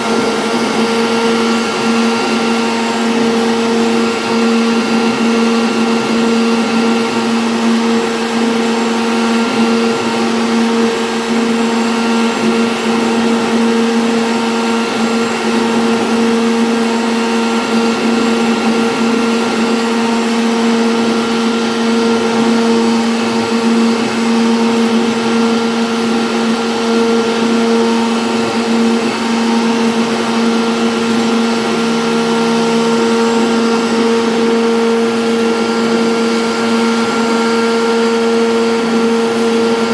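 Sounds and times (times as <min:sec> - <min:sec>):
wood router carving: 0:00.0 - 0:39.9.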